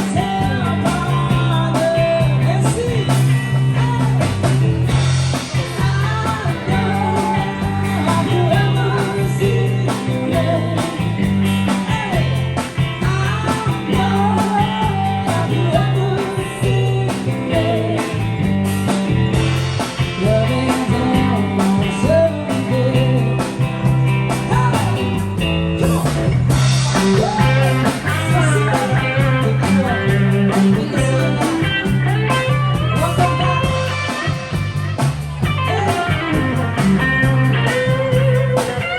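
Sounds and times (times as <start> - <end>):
person singing: 0.0 - 4.5, 5.6 - 18.4, 19.8 - 25.2, 25.8 - 26.3, 26.9 - 38.9
bass line: 0.0 - 38.9
guitar: 0.0 - 38.9
rock song: 0.0 - 38.9.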